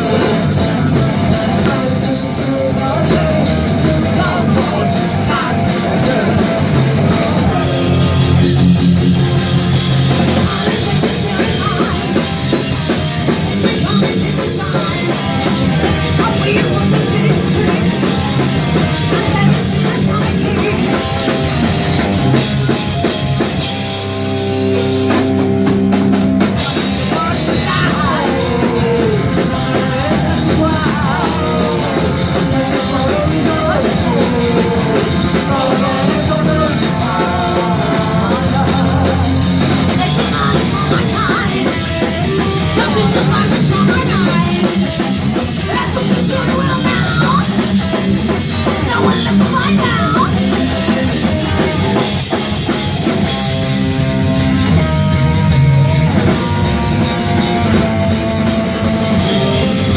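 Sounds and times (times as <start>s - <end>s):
person singing: 0.0s - 22.8s, 26.3s - 52.5s, 54.7s - 59.9s
distorted guitars: 0.0s - 59.9s
drum kit: 0.0s - 59.9s
punk rock band playing: 0.0s - 59.9s.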